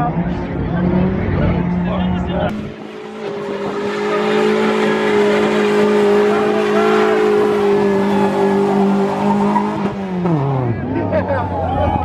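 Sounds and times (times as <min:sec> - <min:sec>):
car engine revving high: 0:00.0 - 0:11.0.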